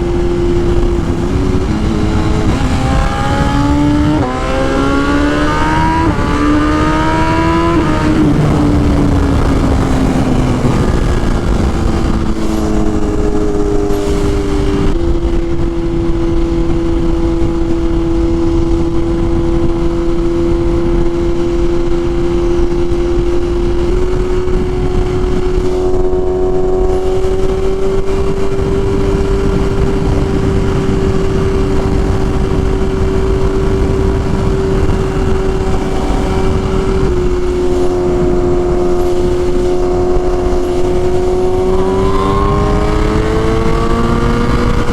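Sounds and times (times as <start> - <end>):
motorcycle engine running: 0.0 - 44.9
steady rush of noise: 0.0 - 44.9.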